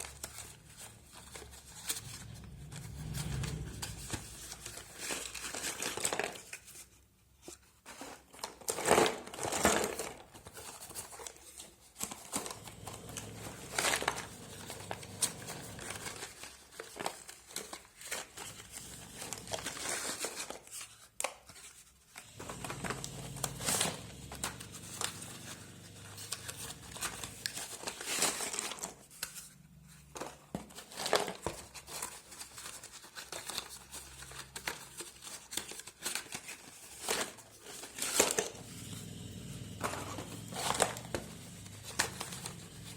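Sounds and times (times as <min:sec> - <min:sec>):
packaging crinkling and tearing: 0:00.0 - 0:42.9.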